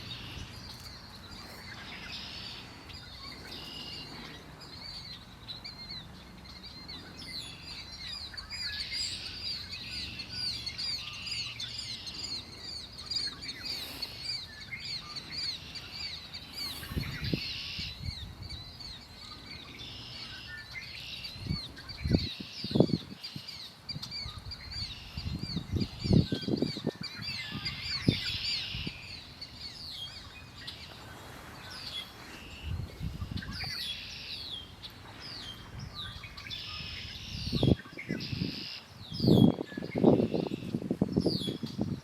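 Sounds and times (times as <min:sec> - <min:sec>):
songbirds chirping and trilling: 0:00.0 - 0:42.0.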